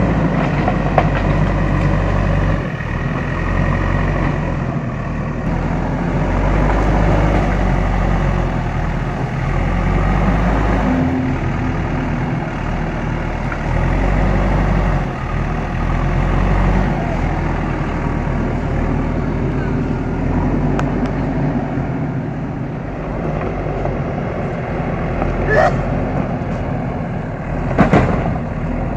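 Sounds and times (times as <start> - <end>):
diesel engine working: 0.0 - 28.9.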